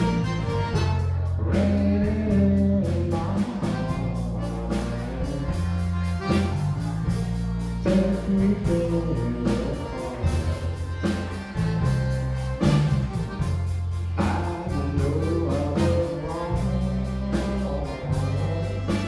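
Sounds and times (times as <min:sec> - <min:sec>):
cajun band playing: 0:00.0 - 0:19.0.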